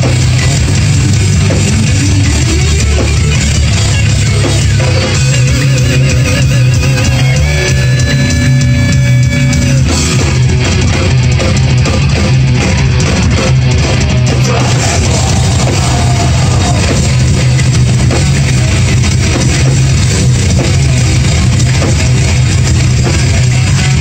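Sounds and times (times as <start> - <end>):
bass guitar: 0.0 - 24.0
drums: 0.0 - 24.0
electric guitars: 0.0 - 24.0.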